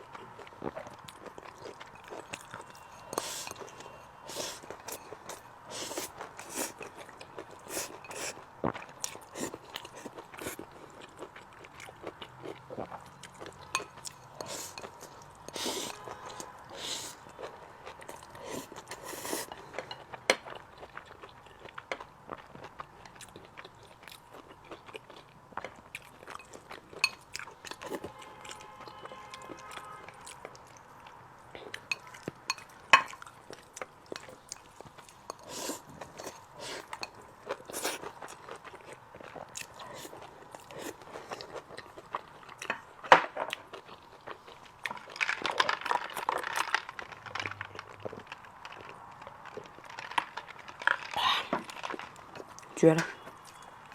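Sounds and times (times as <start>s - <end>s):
chewing and crunching food: 0.0s - 53.9s.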